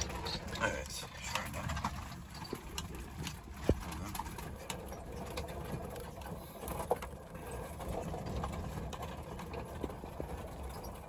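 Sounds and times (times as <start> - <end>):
car cabin rattling and clicking: 0.0 - 11.0
low tyre rumble: 0.0 - 11.0.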